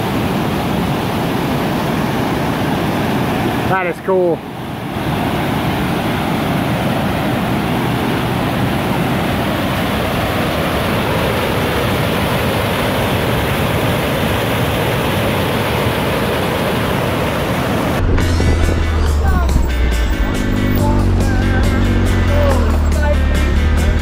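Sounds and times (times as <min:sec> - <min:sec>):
whitewater rushing: 0:00.0 - 0:24.0.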